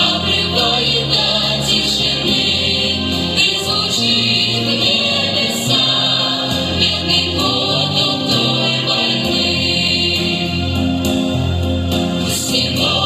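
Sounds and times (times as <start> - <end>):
instrumental accompaniment: 0.0 - 13.0
vocal ensemble singing: 0.0 - 13.0.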